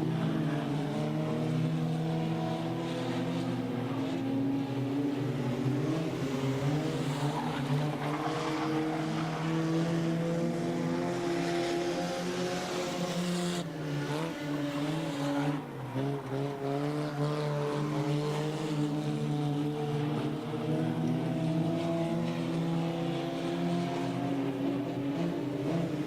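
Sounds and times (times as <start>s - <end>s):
race car engines at speed: 0.0s - 26.0s.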